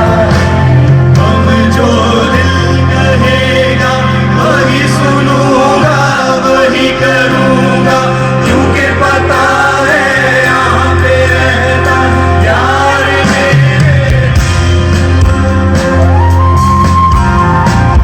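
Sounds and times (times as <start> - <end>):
person singing: 0.0 - 14.7
sustained bass notes: 0.0 - 18.0.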